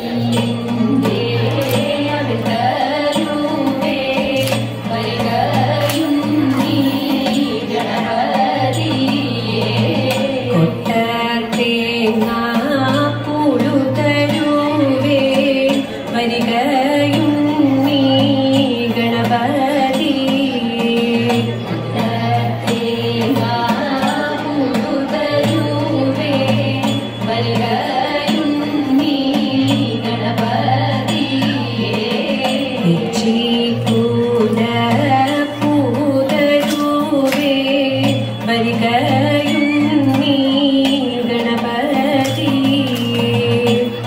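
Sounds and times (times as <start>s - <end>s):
singing with instrumental accompaniment: 0.0s - 44.0s.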